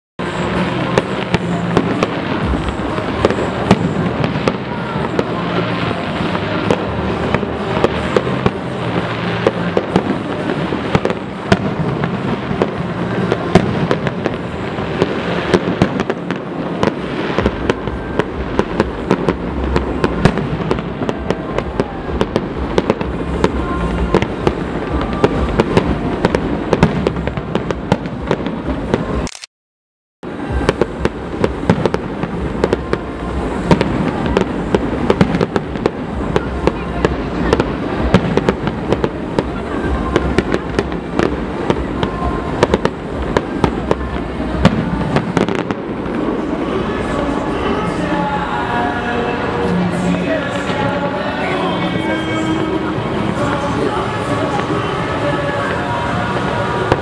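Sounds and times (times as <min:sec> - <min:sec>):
fireworks bangs and crackles: 0:00.2 - 0:29.3, 0:30.3 - 0:57.0.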